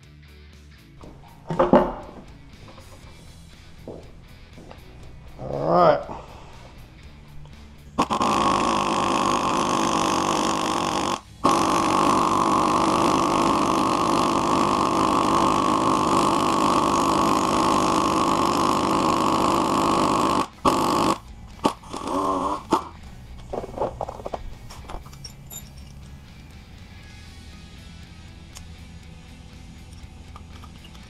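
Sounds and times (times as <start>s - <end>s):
air impact wrench hammering: 1.0s - 26.2s.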